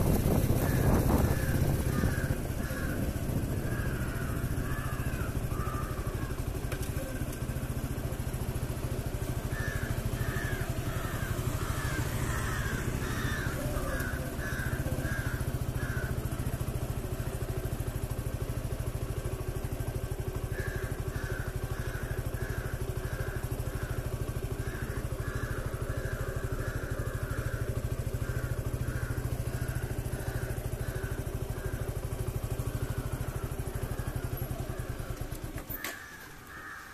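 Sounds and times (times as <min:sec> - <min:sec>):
motorcycle engine running: 0:00.0 - 0:36.9
bird calling: 0:00.3 - 0:17.6, 0:20.4 - 0:36.9.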